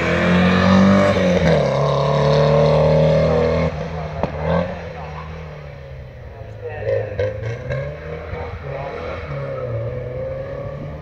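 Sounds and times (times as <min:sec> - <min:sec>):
race car accelerating: 0:00.0 - 0:11.0.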